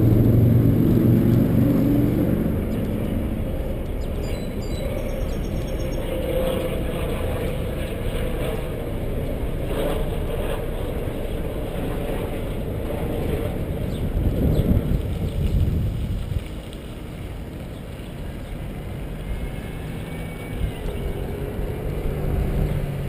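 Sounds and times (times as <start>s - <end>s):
passing vehicle hum: 0.0s - 14.4s, 17.9s - 23.0s
rumbling wind and riding noise: 0.0s - 23.0s.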